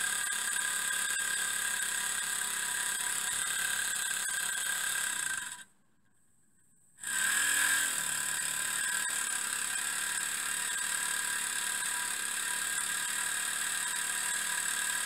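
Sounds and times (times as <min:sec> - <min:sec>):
miniature steam engine running: 0:00.0 - 0:05.7, 0:07.0 - 0:15.0.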